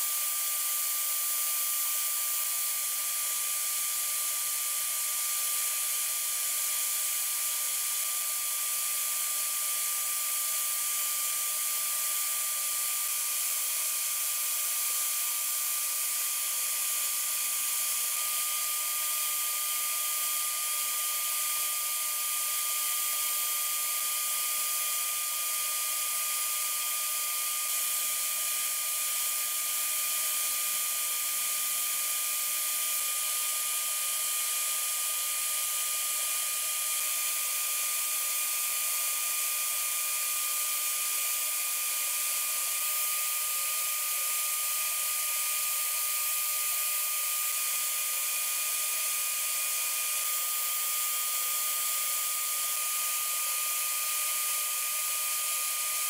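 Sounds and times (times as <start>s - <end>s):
thin steady whistle: 0.0s - 56.0s.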